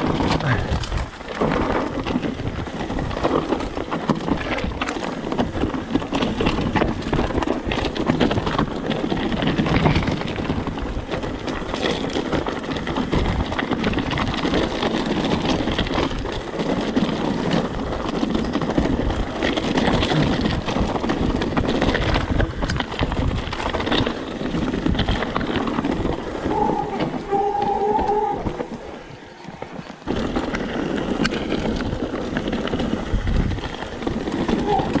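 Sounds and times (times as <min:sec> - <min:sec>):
mountain bike rattling: 0:00.0 - 0:35.0
tyres crunching over loose ground: 0:00.0 - 0:35.0.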